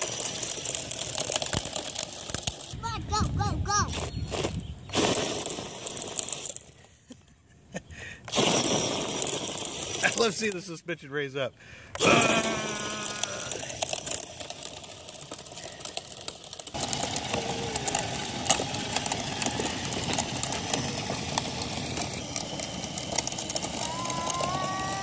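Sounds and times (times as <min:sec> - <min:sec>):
electric motor and gears whining: 0:00.0 - 0:06.7, 0:08.3 - 0:10.5, 0:12.0 - 0:25.0
wheels rolling over rough asphalt: 0:00.0 - 0:07.3, 0:08.2 - 0:10.8, 0:11.9 - 0:25.0.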